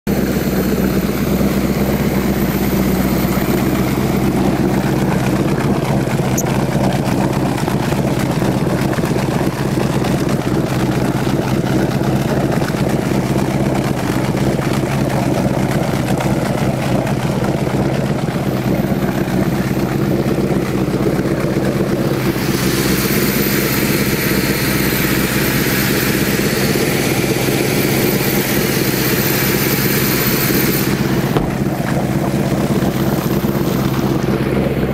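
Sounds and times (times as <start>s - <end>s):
boat engine running: 0.1s - 34.9s.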